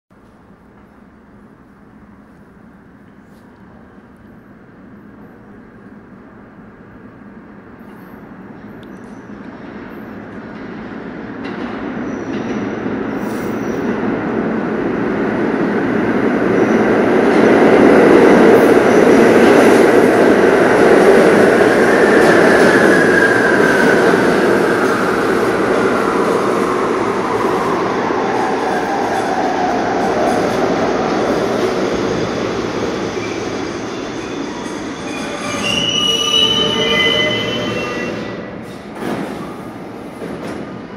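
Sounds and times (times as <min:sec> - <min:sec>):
subway train wheels rumbling: 0:00.1 - 0:40.9.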